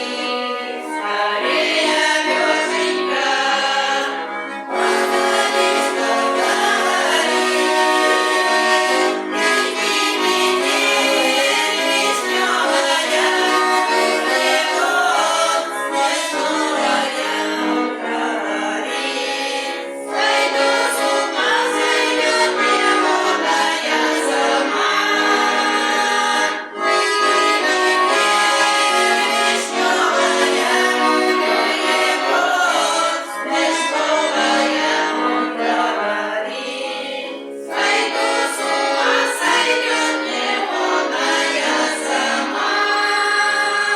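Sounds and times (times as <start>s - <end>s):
accordion: 0.0s - 43.9s
choir singing in unison: 0.0s - 43.9s.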